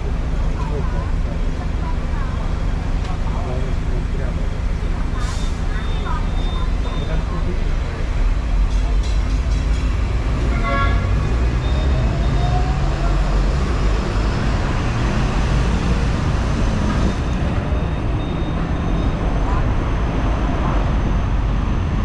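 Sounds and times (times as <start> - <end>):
road traffic: 0.0 - 22.0
tram rumbling on track: 0.0 - 22.0.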